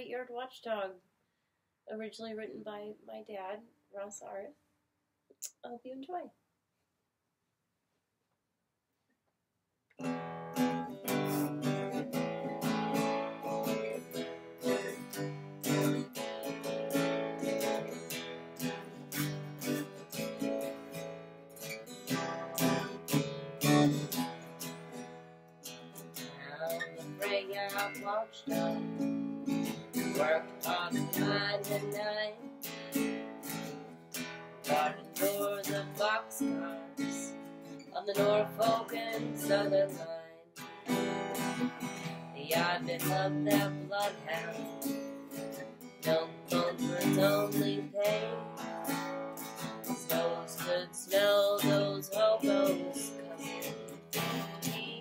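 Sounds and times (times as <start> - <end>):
acoustic guitar strumming: 10.0 - 55.0.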